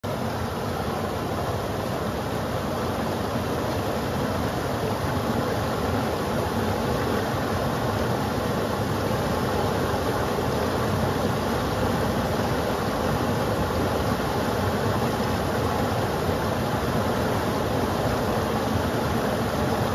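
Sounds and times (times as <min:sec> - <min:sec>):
creek rushing over rocks: 0:00.0 - 0:19.9.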